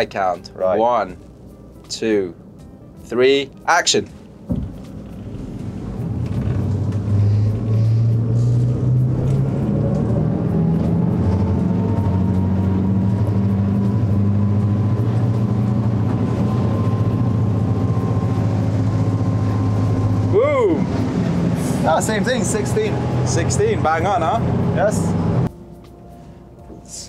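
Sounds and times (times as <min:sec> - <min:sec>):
boat engine drone with whine: 0:04.2 - 0:27.0.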